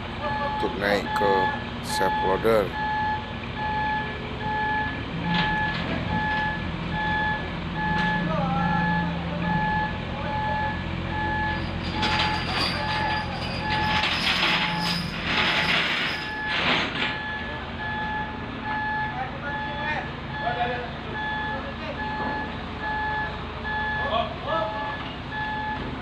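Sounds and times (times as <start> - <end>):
diesel engine running: 0.0 - 26.0
reversing alarm beeping: 0.2 - 26.0.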